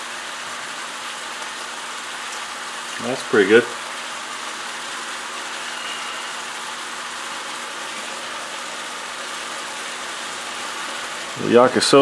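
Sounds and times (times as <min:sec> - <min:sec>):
vegetables sizzling in wok: 0:00.0 - 0:11.6.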